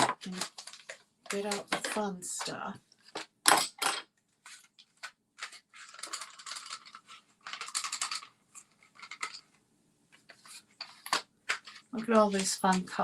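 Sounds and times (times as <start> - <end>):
pencils rattling and scraping: 0.0 - 13.0.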